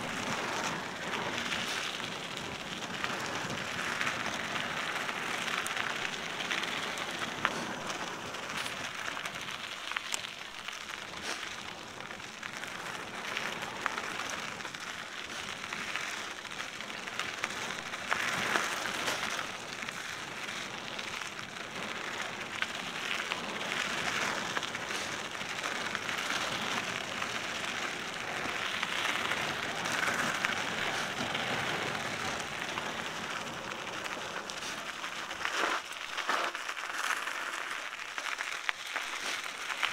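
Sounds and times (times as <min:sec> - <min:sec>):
bike tyres hissing on gravel: 0:00.0 - 0:39.9.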